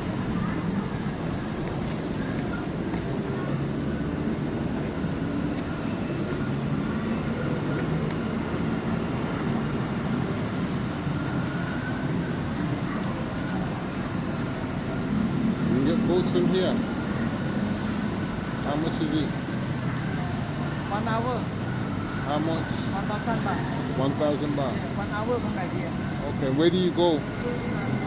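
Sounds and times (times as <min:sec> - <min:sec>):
engines rumbling: 0:00.0 - 0:28.0
faint voices: 0:00.0 - 0:28.0.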